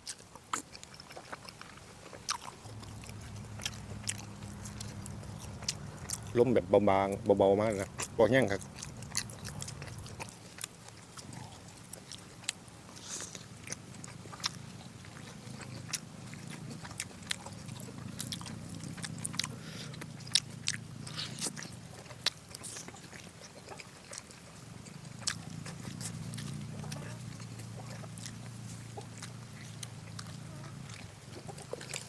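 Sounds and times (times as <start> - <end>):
chewing and biting: 0.0 - 32.0
low steady hum: 0.0 - 32.0.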